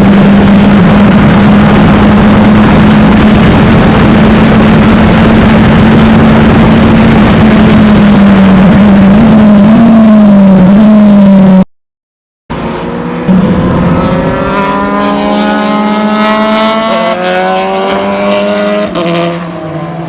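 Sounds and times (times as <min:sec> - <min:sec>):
dense rushing noise: 0:00.0 - 0:10.7, 0:12.5 - 0:20.0
race car engine: 0:00.0 - 0:11.6, 0:12.5 - 0:20.0.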